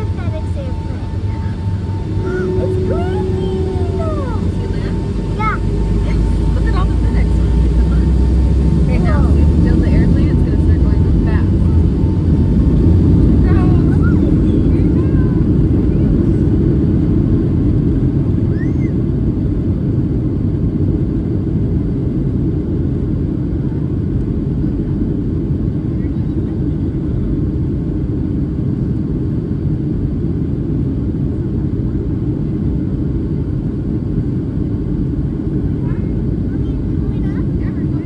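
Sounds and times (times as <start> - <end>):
jet engines in aircraft cabin: 0.0 - 38.0.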